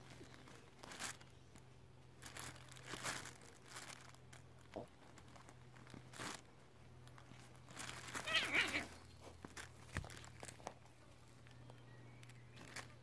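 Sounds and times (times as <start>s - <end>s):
fabric rustling and crinkling: 0.0s - 11.6s, 12.2s - 13.0s.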